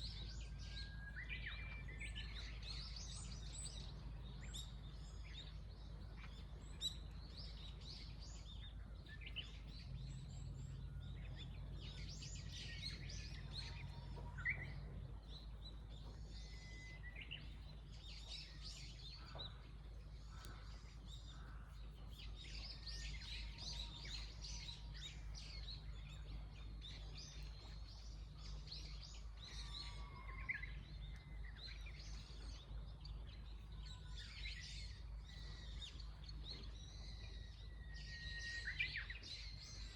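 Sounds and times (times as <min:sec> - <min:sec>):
small birds chirping and twittering: 0:00.0 - 0:39.9
steady low hum: 0:00.0 - 0:39.9.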